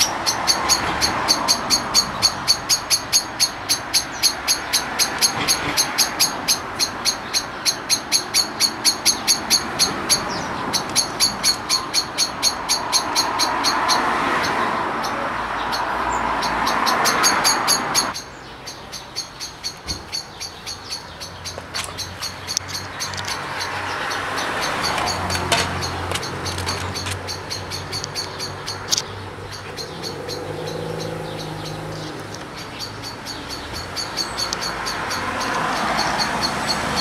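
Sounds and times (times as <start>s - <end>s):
rushing background noise: 0.0s - 37.0s.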